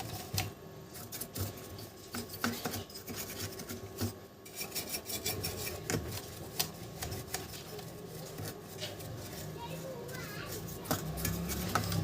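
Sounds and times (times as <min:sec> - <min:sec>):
brush scrubbing dust: 0:00.0 - 0:12.0.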